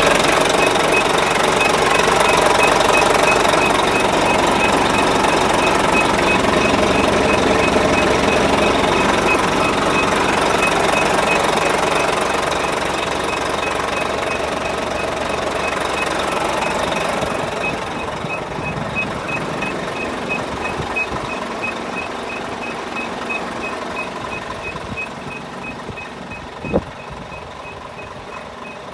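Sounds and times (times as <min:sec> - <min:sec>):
diesel truck engine idling: 0:00.0 - 0:28.9
thin high beeps: 0:00.3 - 0:28.9.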